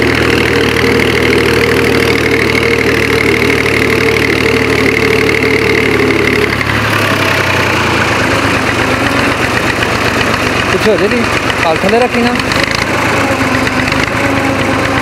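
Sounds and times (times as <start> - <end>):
old tractor engine running: 0.0 - 15.0.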